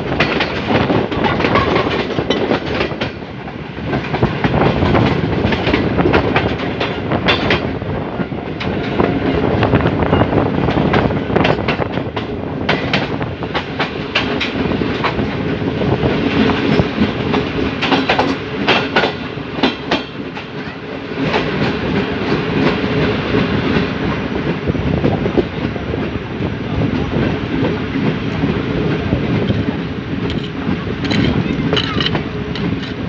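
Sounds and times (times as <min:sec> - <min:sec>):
train wheels rumbling on rail: 0:00.0 - 0:33.0
wheels clickety-clack over joints: 0:00.0 - 0:33.0.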